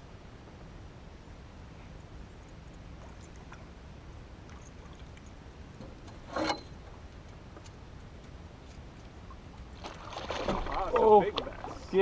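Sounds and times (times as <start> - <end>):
water around boat: 0.0 - 12.0
wind: 0.0 - 12.0.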